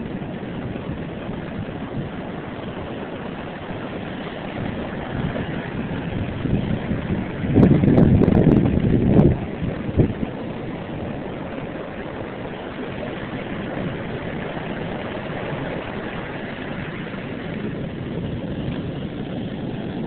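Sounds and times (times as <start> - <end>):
rough surf breaking: 0.0 - 20.0.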